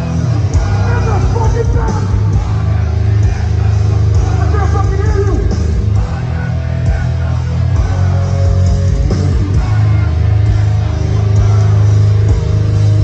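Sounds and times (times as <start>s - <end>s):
crowd: 0.0s - 13.0s
heavy metal band playing live: 0.0s - 13.0s.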